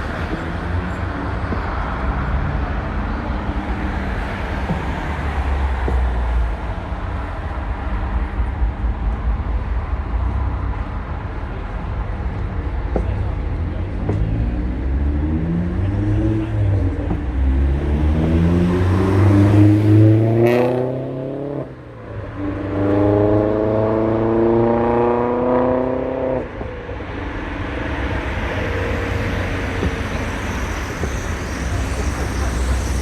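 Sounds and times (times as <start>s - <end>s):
diesel locomotive engine: 0.0s - 33.0s.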